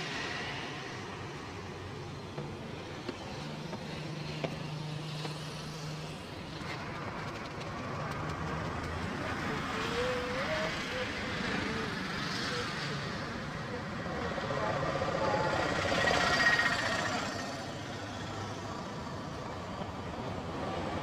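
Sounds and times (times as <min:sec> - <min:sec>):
passing vehicle engine hum: 0:00.0 - 0:21.0
street traffic noise: 0:00.0 - 0:21.0.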